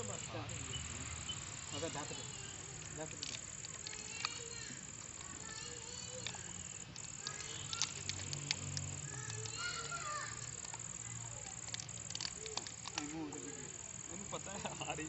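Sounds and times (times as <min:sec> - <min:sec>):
high-pitched insect trill: 0:00.0 - 0:15.0
small clicks: 0:00.6 - 0:15.0.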